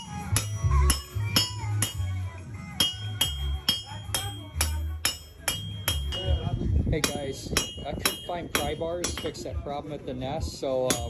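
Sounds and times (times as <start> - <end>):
hammer striking steel on anvil: 0.0 - 9.6, 10.8 - 11.0
music: 0.0 - 11.0.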